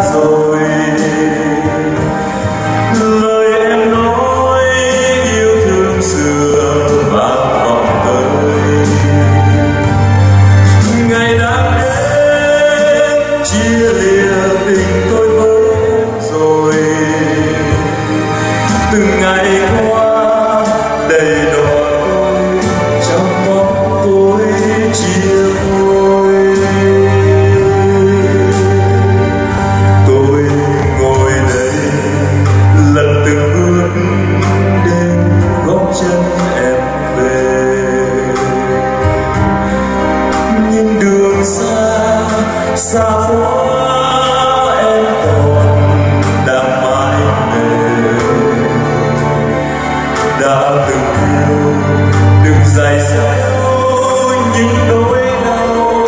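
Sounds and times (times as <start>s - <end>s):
person singing long notes: 0.0s - 56.0s
piano: 0.0s - 56.0s.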